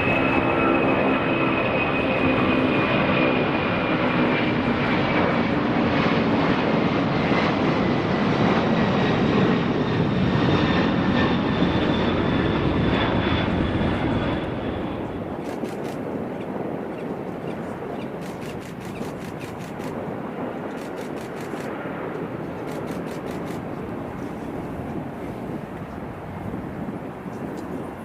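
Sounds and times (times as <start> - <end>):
jet engines roaring with whine: 0.0 - 28.0.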